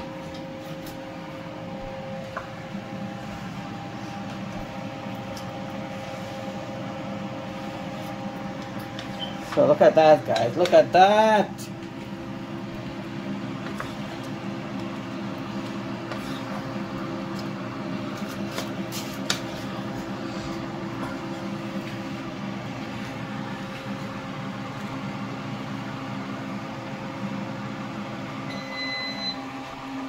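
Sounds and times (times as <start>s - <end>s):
appliance fan humming: 0.0s - 30.0s.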